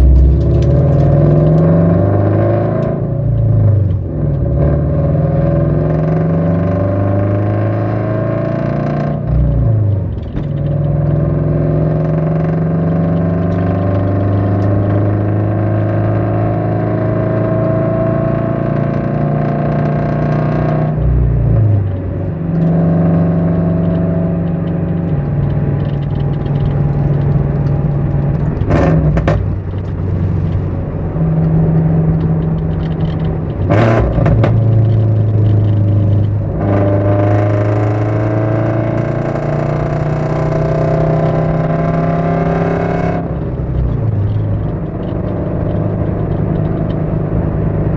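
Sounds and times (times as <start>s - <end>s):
exhaust cracks: 0.0s - 6.0s, 9.1s - 16.7s, 20.9s - 47.9s
car engine running loud: 0.0s - 47.9s.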